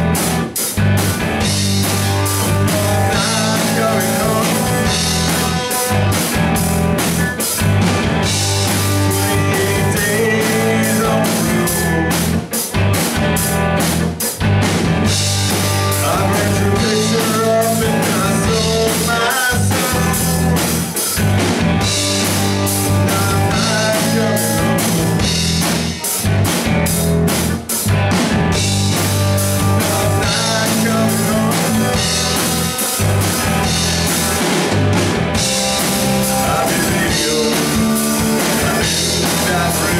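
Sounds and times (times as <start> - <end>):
drum kit beat: 0.0 - 39.9
electric guitars: 0.0 - 39.9.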